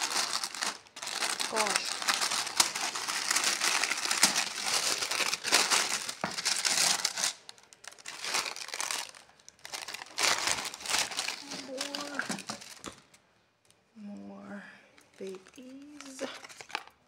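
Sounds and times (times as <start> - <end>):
tissue paper crinkling: 0.0 - 13.2, 15.1 - 17.0.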